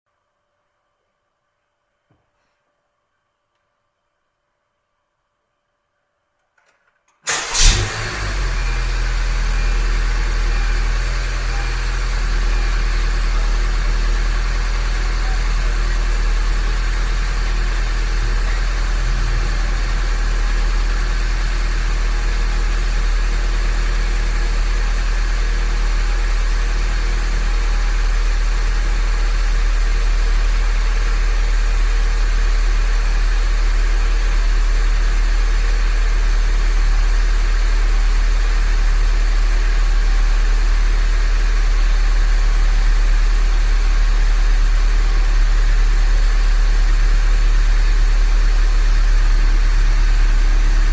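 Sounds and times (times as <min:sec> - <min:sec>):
car engine idling: 0:07.3 - 0:50.9.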